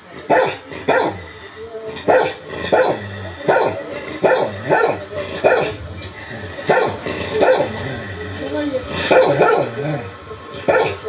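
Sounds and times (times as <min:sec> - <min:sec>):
dog barking: 0:00.0 - 0:11.0.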